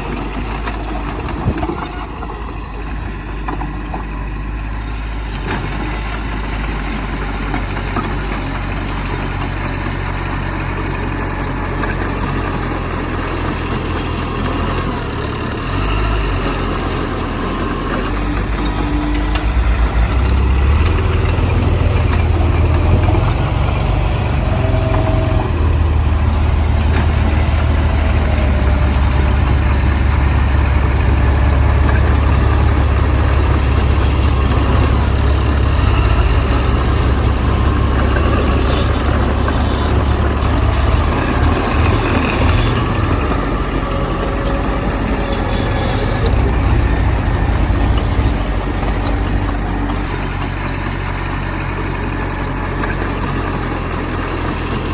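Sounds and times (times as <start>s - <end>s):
heavy diesel engine droning: 0.0s - 54.9s.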